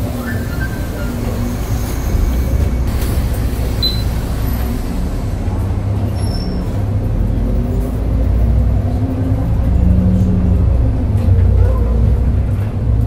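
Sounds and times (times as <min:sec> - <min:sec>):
bus rumbling: 0:00.0 - 0:13.0.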